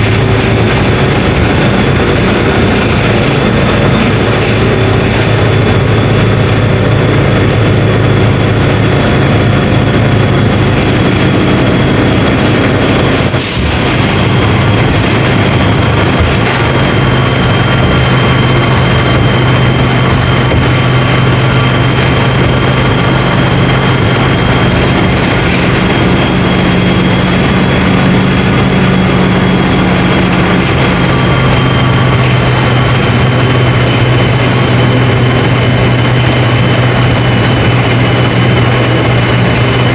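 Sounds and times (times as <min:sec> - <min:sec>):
bus diesel engine humming: 0:00.0 - 0:39.9.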